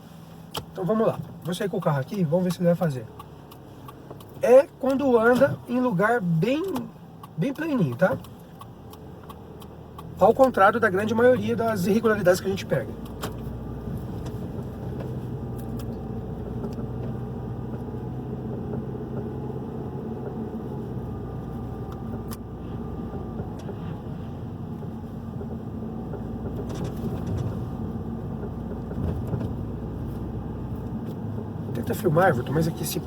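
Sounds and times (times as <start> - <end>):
car engine and tyres while driving: 0.0 - 33.0.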